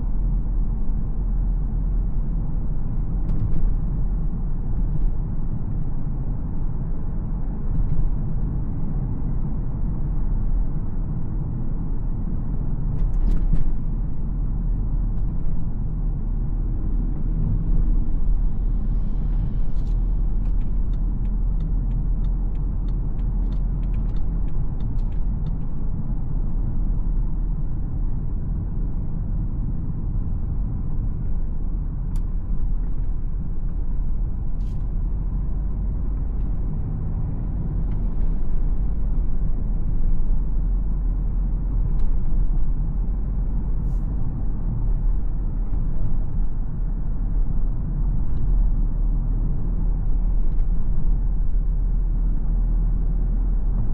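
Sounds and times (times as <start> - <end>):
diesel engine low rumble: 0.0 - 53.9
road noise: 0.0 - 53.9.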